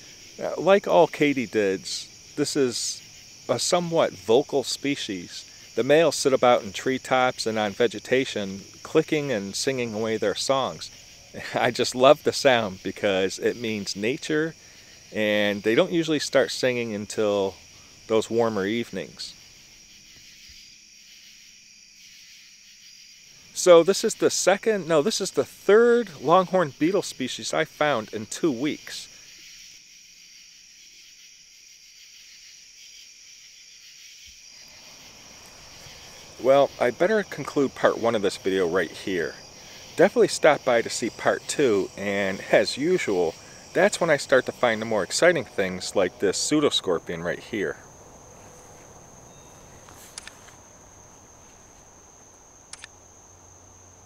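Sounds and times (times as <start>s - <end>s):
crickets and katydids chirping: 0.0s - 54.0s
high-pitched insect trill: 0.0s - 54.0s.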